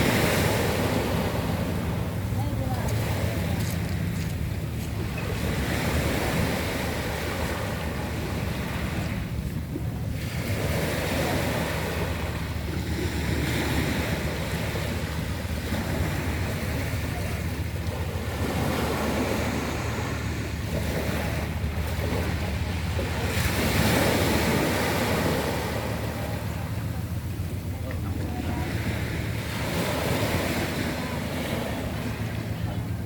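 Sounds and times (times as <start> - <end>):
waves dragging pebbles: 0.0 - 32.8
wind on microphone: 0.0 - 33.0.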